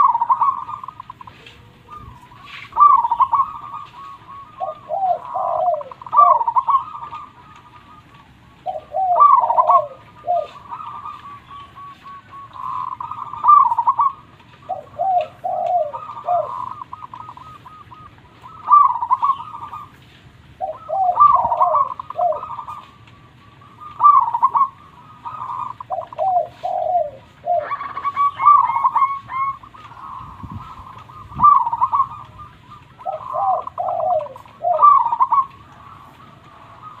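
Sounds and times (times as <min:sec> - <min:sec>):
doves cooing: 0:00.0 - 0:37.0.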